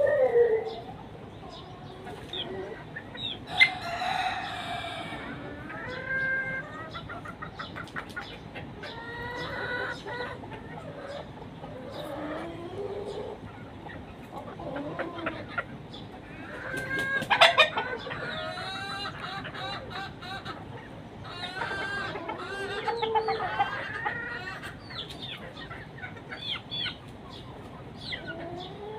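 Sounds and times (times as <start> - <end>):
chickens clucking: 0.0 - 28.9
chickens squawking: 0.0 - 28.9.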